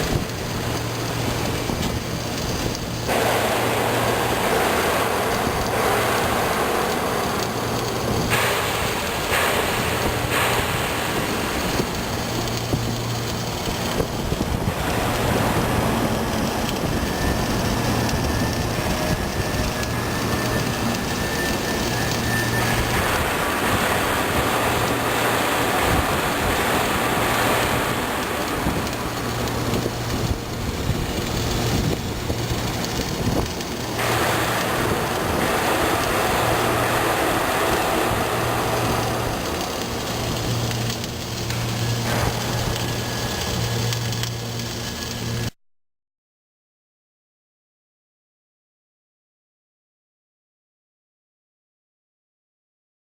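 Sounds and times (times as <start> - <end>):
low electrical hum: 0.0 - 45.5
welding arc crackling and hissing: 0.0 - 45.6.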